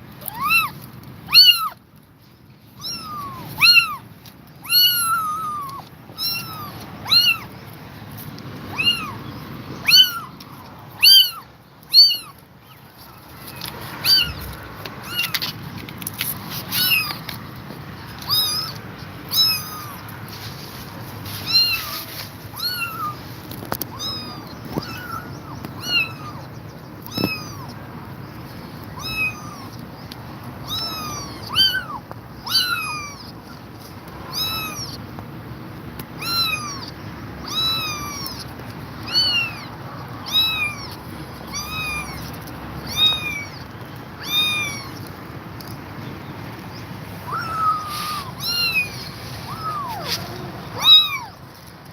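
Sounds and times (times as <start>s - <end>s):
kittens mewing: 0.2s - 1.8s, 2.8s - 7.6s, 8.6s - 15.7s, 16.6s - 17.3s, 18.0s - 20.4s, 21.3s - 28.1s, 28.8s - 30.0s, 30.6s - 35.1s, 36.1s - 45.4s, 46.4s - 51.7s.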